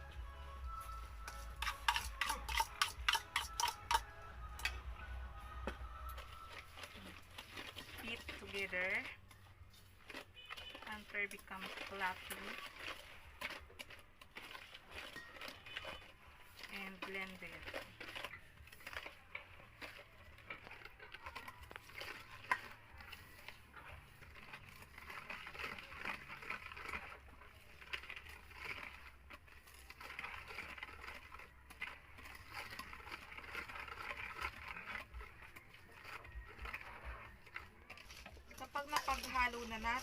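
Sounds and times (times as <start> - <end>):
hand mixer beaters rattling: 0.0 - 40.0
mixer motor hum: 0.0 - 40.0.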